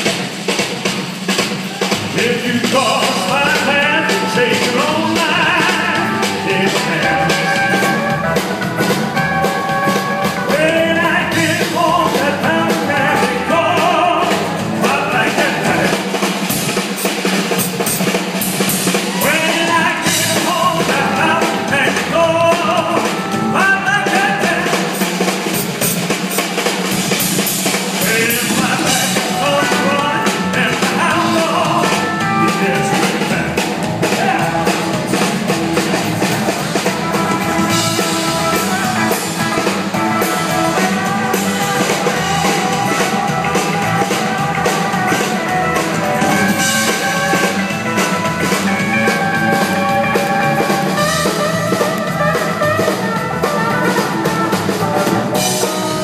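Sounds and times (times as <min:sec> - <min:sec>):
drums: 0:00.0 - 0:56.0
guitars: 0:00.0 - 0:56.0
man singing: 0:01.6 - 0:16.3, 0:18.9 - 0:25.4, 0:27.5 - 0:56.0.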